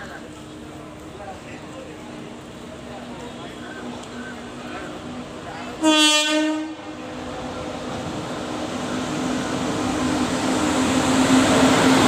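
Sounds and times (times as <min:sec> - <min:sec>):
locomotive hum: 0:00.0 - 0:12.0
train wheel and rail noise: 0:00.0 - 0:12.0.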